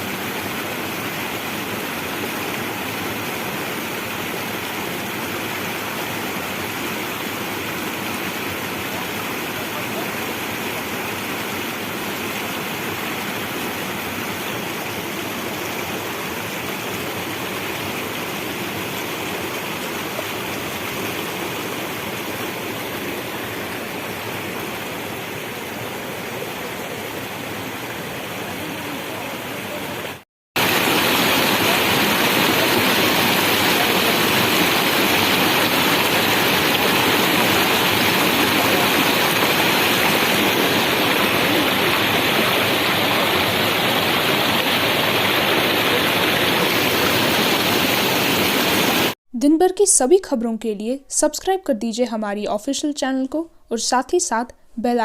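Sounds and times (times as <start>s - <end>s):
rushing water: 0.0s - 49.2s.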